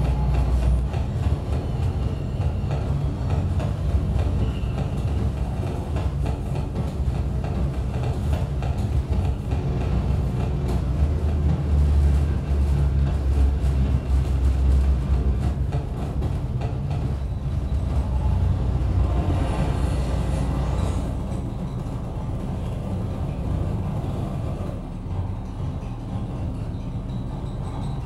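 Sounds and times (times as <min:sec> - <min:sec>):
distorted rumbling synthesizer noise: 0:00.0 - 0:28.0.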